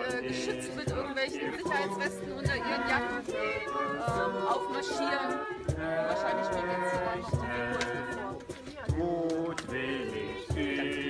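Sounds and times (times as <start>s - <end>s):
choir singing in harmony: 0.0s - 11.0s.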